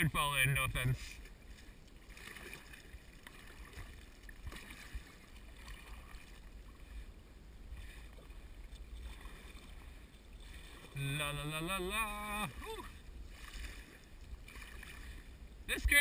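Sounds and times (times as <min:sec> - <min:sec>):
low steady rumble: 0:00.0 - 0:16.0
paddle splashing in water: 0:01.1 - 0:16.0.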